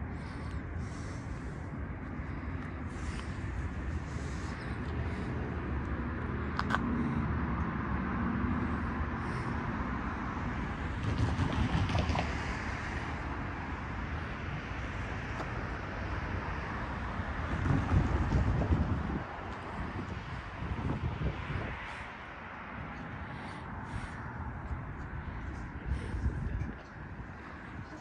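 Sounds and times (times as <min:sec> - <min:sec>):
passing cars road noise: 0:00.0 - 0:28.0.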